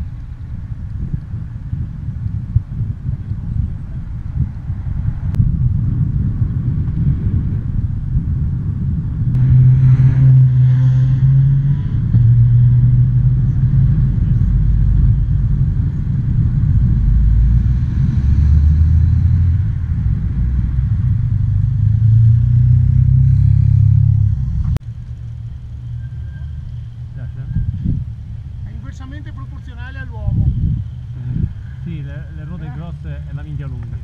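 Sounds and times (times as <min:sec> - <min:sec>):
car engines: 0:00.0 - 0:34.0
motorcycle engines: 0:00.0 - 0:34.0.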